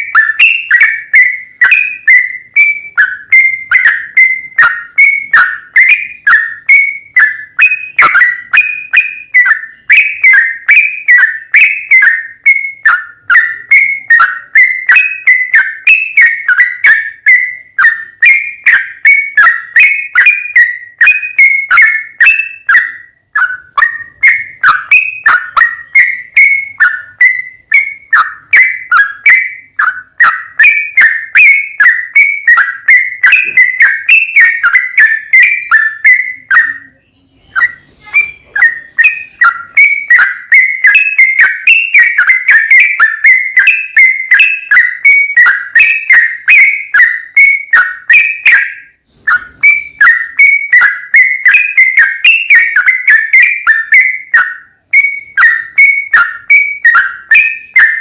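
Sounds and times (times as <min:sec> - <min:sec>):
bird singing whistled notes: 0:00.0 - 0:58.0.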